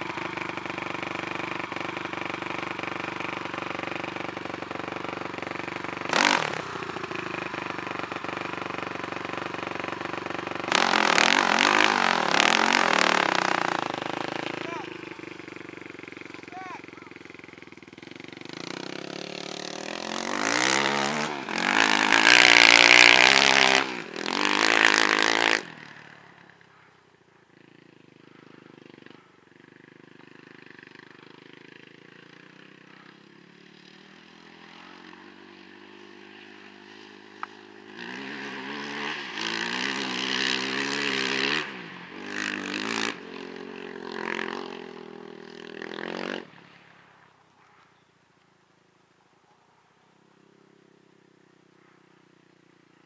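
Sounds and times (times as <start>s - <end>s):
quad engine revving: 0.0s - 26.9s, 27.5s - 46.6s.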